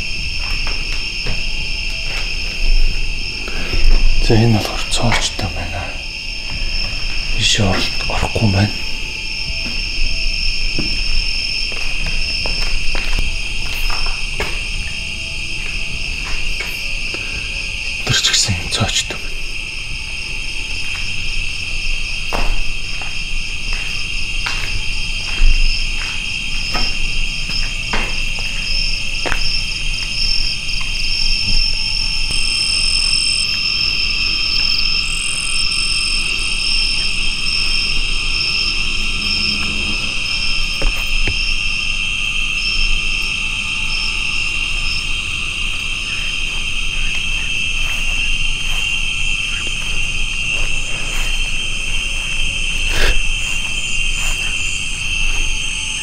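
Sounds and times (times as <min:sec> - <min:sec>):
insect trilling: 0:00.0 - 0:56.0
insects droning: 0:00.0 - 0:56.0.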